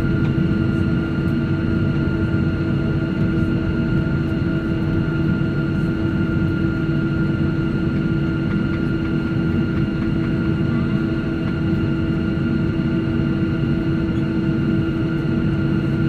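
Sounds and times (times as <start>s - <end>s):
jet engines droning in cabin: 0.0s - 16.0s.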